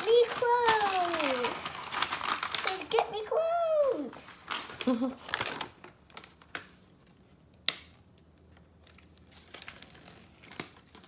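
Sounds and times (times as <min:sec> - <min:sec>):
plastic wrapping crinkling and tearing: 0:00.0 - 0:07.2, 0:08.3 - 0:11.0.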